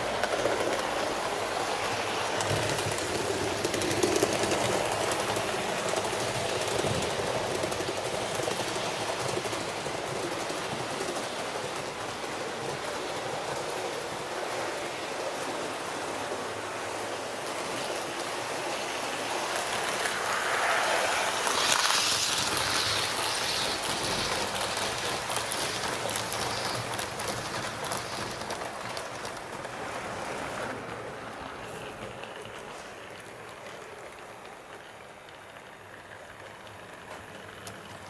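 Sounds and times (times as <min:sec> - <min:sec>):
model train wheels rattling: 0:00.0 - 0:15.2, 0:17.4 - 0:30.8, 0:31.7 - 0:38.0
sharp clicks of passing train: 0:00.0 - 0:38.0.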